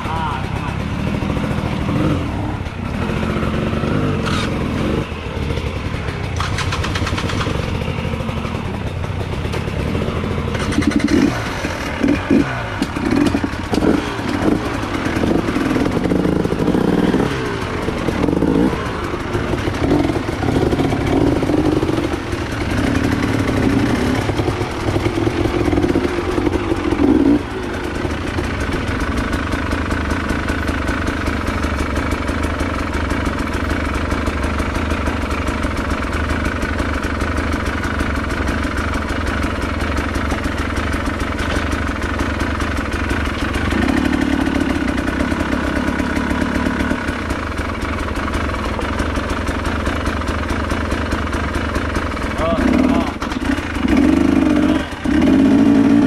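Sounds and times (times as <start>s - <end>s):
trail motorcycle engine revving: 0.0s - 56.0s.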